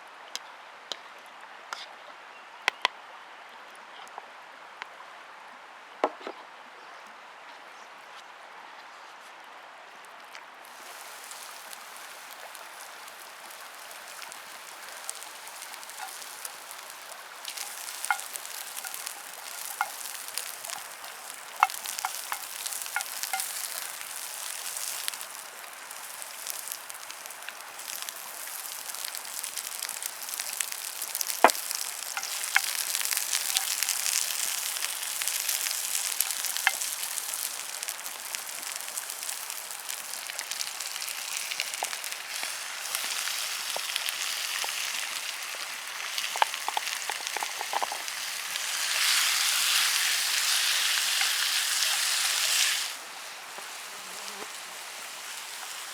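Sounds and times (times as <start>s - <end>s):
food sizzling in a pan: 10.6s - 55.9s.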